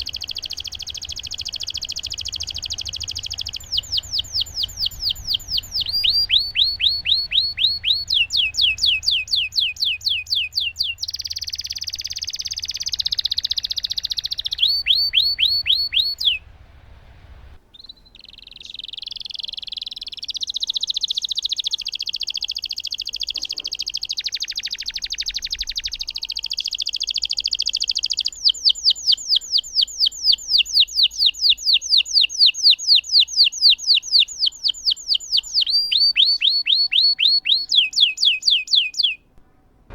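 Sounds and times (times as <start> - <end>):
canary singing: 0.0 - 16.6, 17.6 - 39.9.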